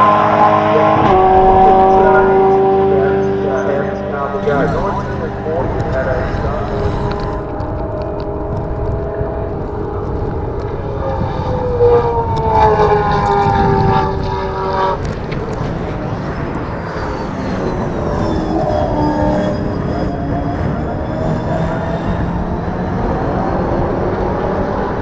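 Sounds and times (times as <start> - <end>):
race car engine passing: 0.0 - 25.0.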